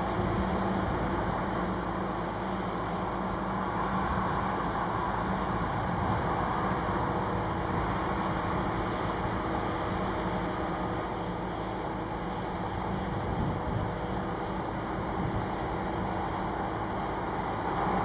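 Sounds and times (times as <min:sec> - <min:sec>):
diesel machinery drone: 0:00.0 - 0:18.0.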